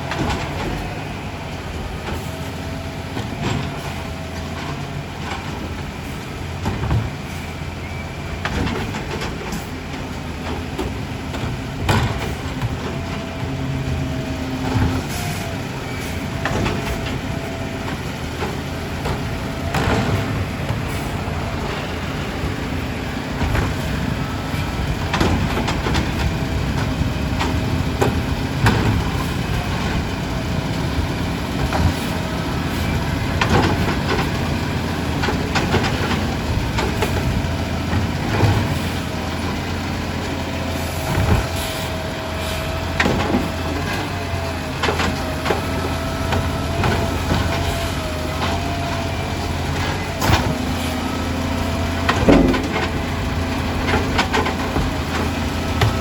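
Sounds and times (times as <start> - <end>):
garbage truck engine drone: 0.0 - 56.0
clanks and knocks: 8.4 - 56.0.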